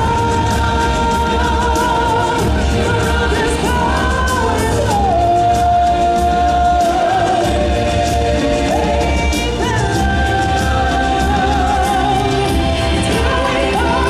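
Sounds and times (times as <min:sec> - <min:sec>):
low drum beat: 0:00.0 - 0:14.0
person singing: 0:00.0 - 0:14.0.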